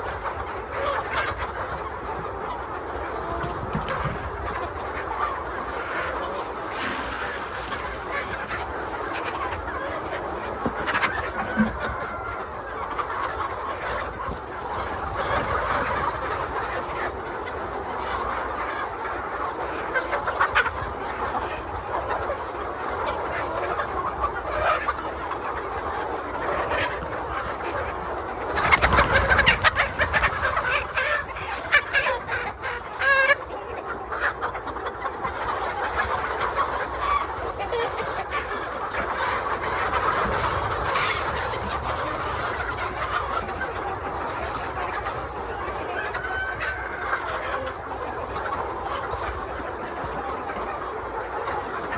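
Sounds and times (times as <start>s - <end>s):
hens clucking: 0.0s - 51.9s.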